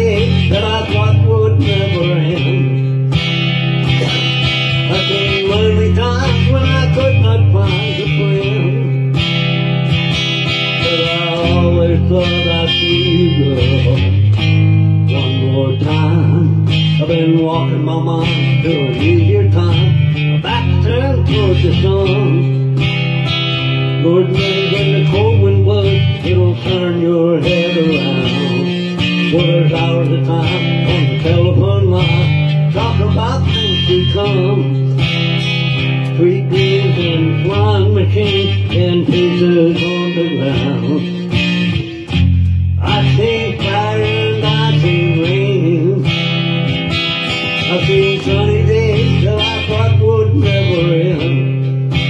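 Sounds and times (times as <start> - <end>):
man singing: 0.0 - 9.4, 10.4 - 42.2, 42.8 - 46.5, 47.4 - 52.0
acoustic guitar strumming: 0.0 - 52.0.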